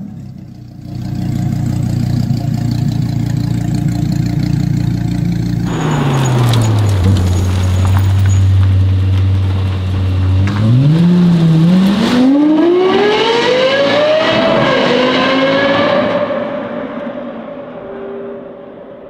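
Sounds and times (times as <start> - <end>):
car engine accelerating: 0.0 - 18.8.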